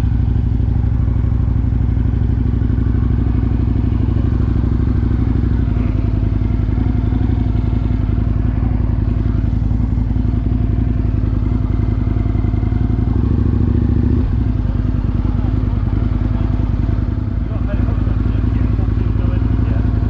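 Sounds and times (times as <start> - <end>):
motorcycle engine running steadily: 0.0 - 20.0.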